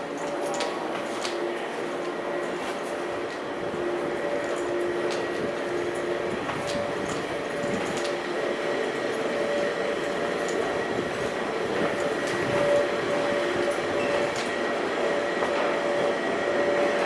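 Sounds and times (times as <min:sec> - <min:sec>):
subway train running: 0:00.0 - 0:17.0.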